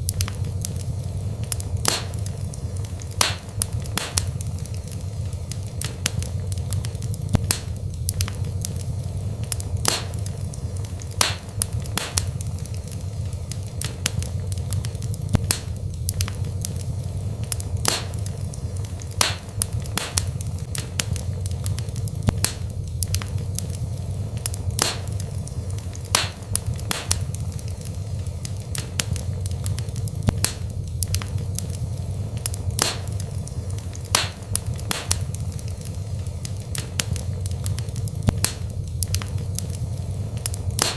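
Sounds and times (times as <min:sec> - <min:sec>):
fireplace crackling and popping: 0:00.0 - 0:40.9
low rumble of fire: 0:00.0 - 0:40.9.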